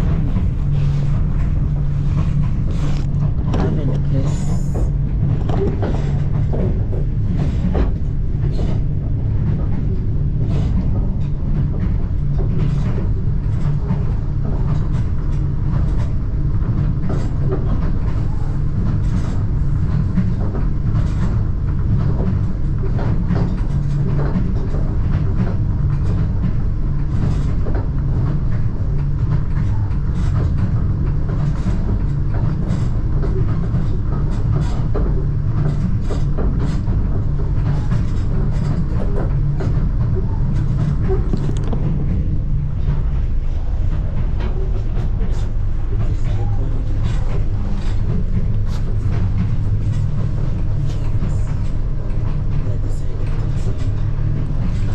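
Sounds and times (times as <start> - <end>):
train low rumble: 0.0 - 54.9.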